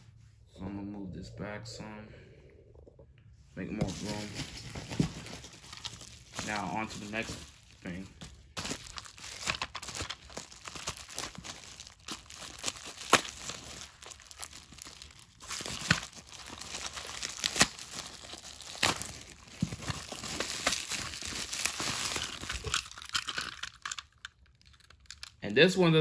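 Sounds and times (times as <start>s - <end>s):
plastic packaging crinkling: 3.8s - 25.4s.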